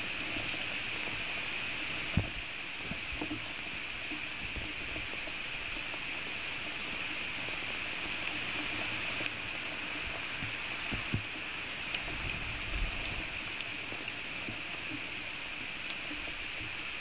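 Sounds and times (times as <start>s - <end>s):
steady rain on forest: 0.0s - 17.0s.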